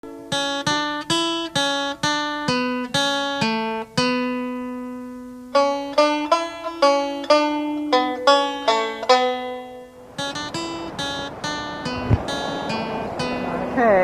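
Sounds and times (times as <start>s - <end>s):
plucked string instrument: 0.0s - 14.0s.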